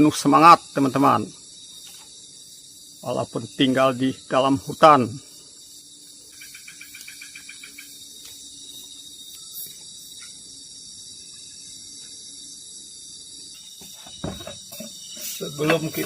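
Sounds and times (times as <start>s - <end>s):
crickets shrilling: 0.0s - 16.0s
pulsed cricket chirps: 0.0s - 16.0s.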